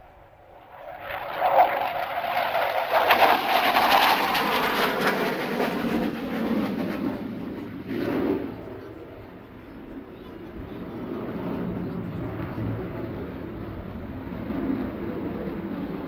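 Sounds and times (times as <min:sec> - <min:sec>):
jet aircraft passing: 0:00.0 - 0:16.0.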